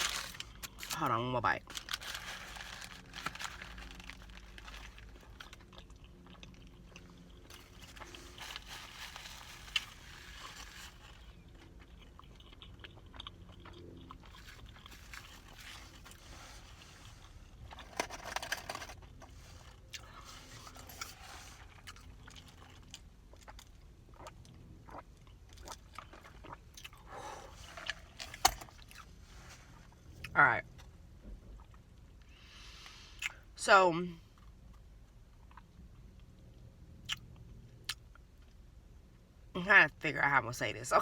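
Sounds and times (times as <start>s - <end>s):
chewing and crunching food: 0.0s - 33.5s, 34.2s - 38.8s.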